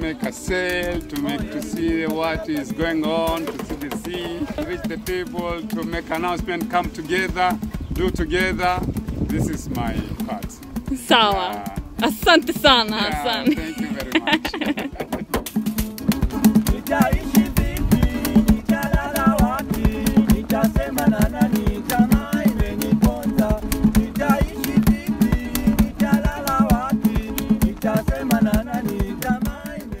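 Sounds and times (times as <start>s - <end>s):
music with quick steady beat: 0.0s - 30.0s.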